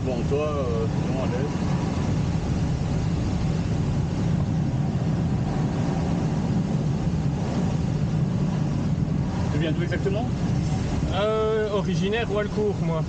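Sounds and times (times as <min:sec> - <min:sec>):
wind rushing over cockpit canopy: 0:00.0 - 0:13.0.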